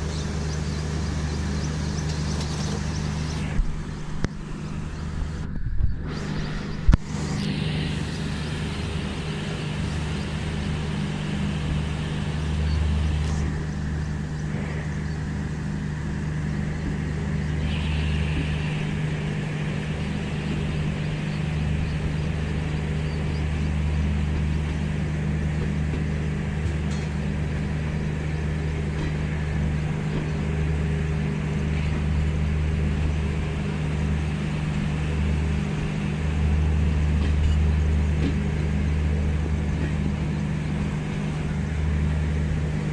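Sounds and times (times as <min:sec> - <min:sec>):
constant hum: 0:00.0 - 0:42.9
train wheels rumbling on track: 0:00.0 - 0:42.9.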